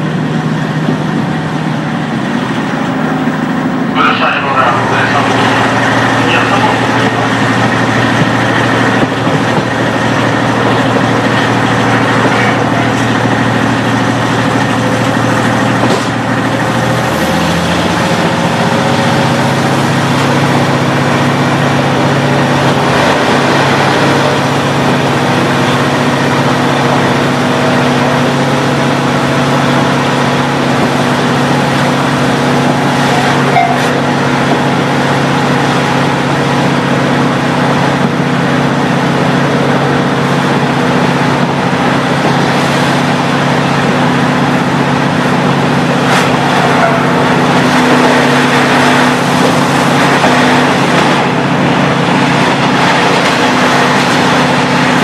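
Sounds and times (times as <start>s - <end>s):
diesel railcar engine running: 0.0s - 55.0s.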